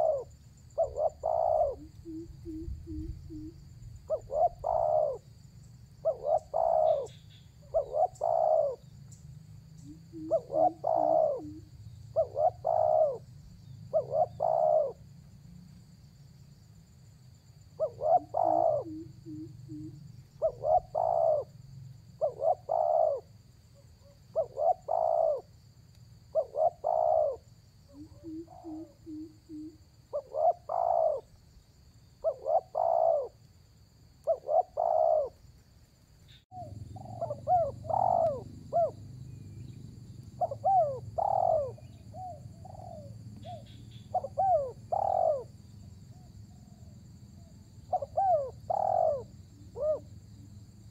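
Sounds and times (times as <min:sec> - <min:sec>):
dove cooing: 0:00.0 - 0:05.3, 0:06.0 - 0:09.0, 0:09.8 - 0:13.3, 0:13.9 - 0:15.0, 0:17.8 - 0:21.6, 0:22.2 - 0:25.6, 0:26.3 - 0:31.4, 0:32.2 - 0:33.4, 0:34.2 - 0:35.4, 0:36.5 - 0:39.7, 0:40.4 - 0:50.6.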